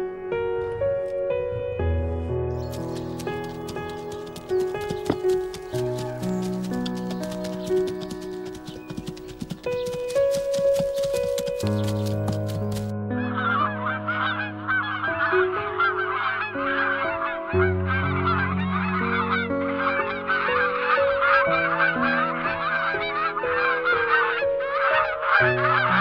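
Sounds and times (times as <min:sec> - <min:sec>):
waterfowl honking: 0:02.6 - 0:26.0.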